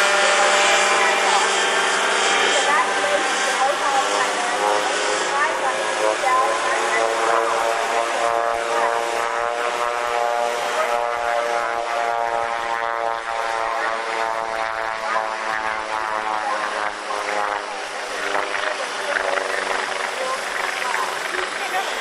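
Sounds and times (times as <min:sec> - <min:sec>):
ultralight aircraft engine droning: 0:00.0 - 0:22.0.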